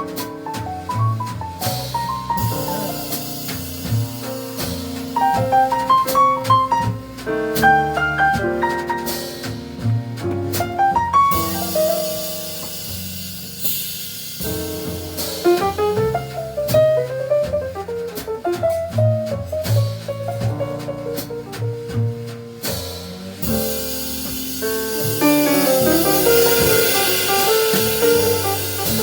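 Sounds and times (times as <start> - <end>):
bass: 0.0 - 29.0
drum kit: 0.0 - 29.0
jazz piano runs: 0.0 - 29.0.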